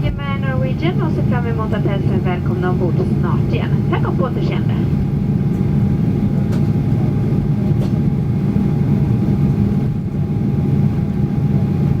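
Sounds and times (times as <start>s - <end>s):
low engine rumble in airplane cabin: 0.0s - 12.0s.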